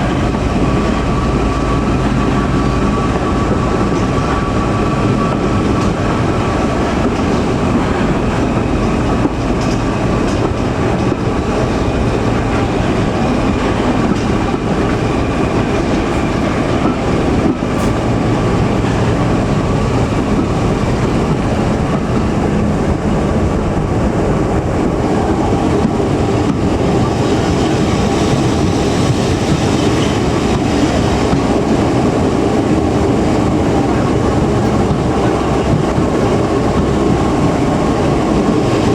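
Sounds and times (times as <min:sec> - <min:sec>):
diesel train running on rails: 0:00.0 - 0:38.9.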